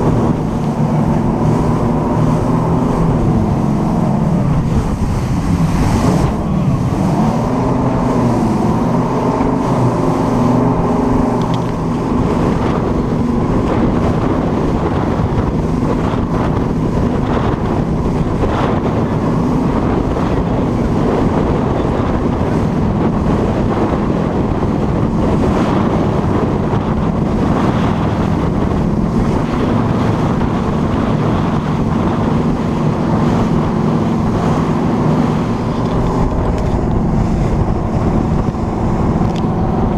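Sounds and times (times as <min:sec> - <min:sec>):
boat engine running: 0:00.0 - 0:39.9
water rushing past hull: 0:00.0 - 0:39.9
wind buffeting microphone: 0:00.0 - 0:39.9.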